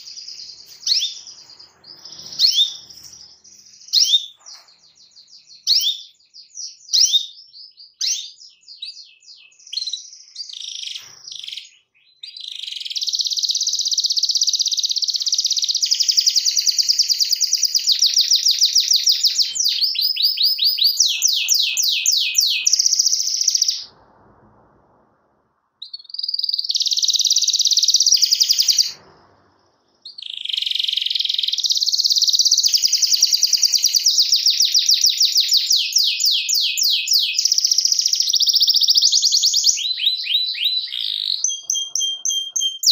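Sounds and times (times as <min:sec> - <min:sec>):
canary chirping and trilling: 0:00.0 - 0:24.2, 0:25.8 - 0:42.9.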